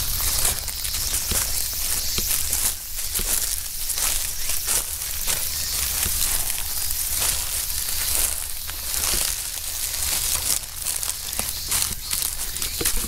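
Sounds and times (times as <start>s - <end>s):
leaves crunching underfoot: 0.0s - 13.0s.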